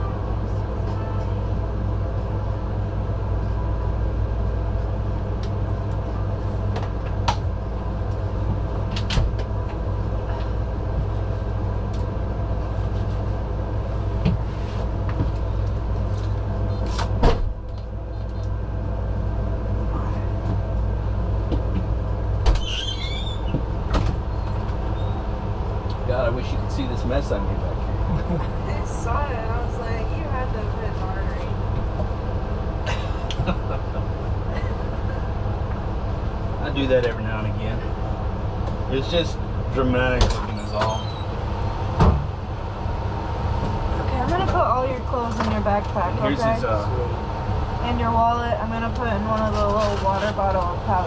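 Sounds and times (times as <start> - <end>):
engine and road rumble: 0.0 - 51.0.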